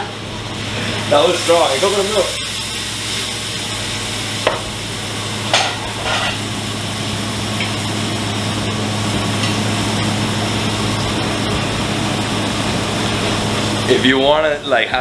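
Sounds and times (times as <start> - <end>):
steady low hum: 0.0 - 15.0
food sizzling in pans: 0.4 - 14.2.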